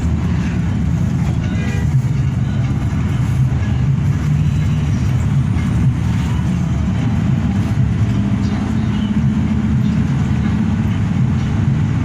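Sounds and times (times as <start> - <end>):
bus engine drone: 0.0 - 12.0
road and tyre noise: 0.0 - 12.0.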